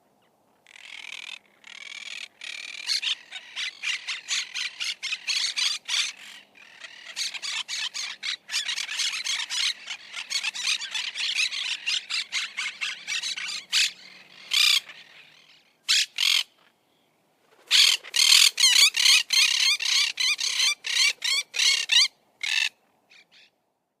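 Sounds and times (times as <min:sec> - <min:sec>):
parakeet harsh calls: 0:00.6 - 0:16.7, 0:17.7 - 0:23.5.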